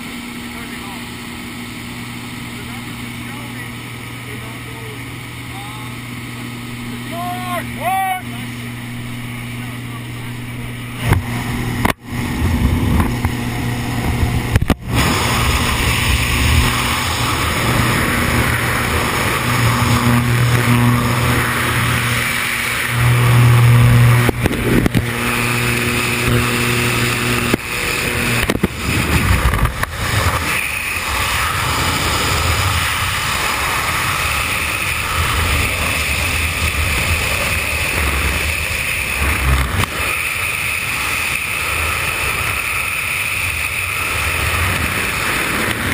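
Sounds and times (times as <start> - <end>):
freefall wind roar: 0.0 - 45.9
plane engine and propeller droning: 0.0 - 45.9.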